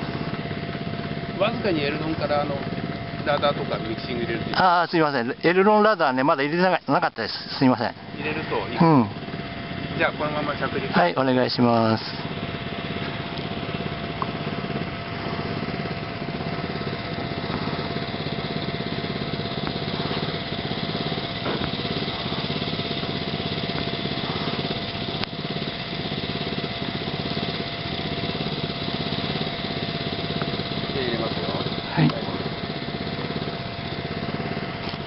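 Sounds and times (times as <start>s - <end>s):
steady engine-like drone: 0.0s - 35.0s.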